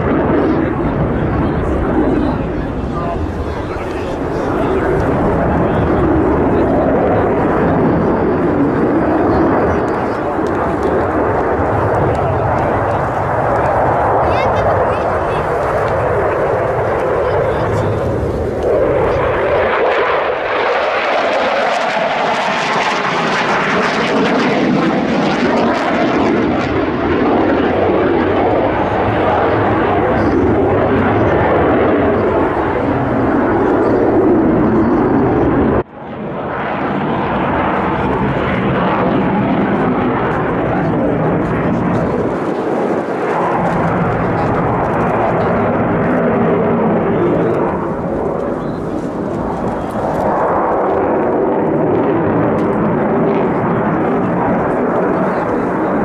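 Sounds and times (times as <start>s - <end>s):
jet engine roaring overhead: 0.0s - 56.0s.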